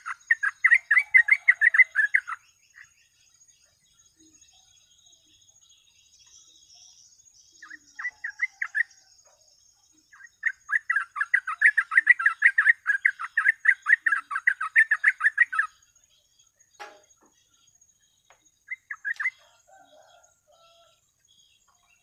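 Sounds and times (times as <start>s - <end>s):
bulbul singing: 0.0s - 22.0s.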